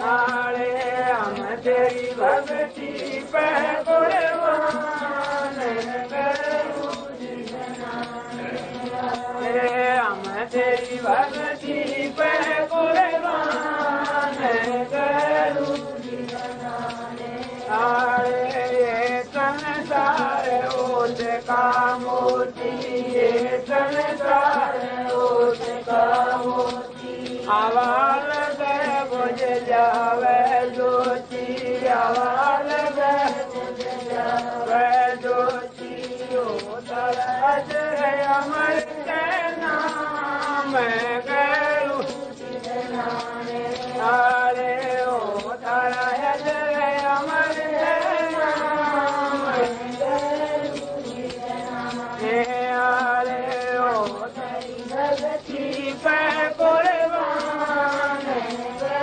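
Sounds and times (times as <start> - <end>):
man singing devotional chant: 0.0 - 59.0.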